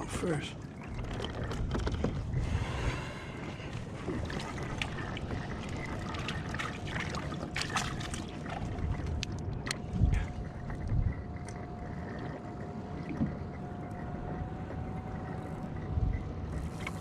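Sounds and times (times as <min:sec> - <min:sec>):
water sloshing against kayak hull: 0:00.0 - 0:17.0
wind rumbling on microphone: 0:00.0 - 0:17.0.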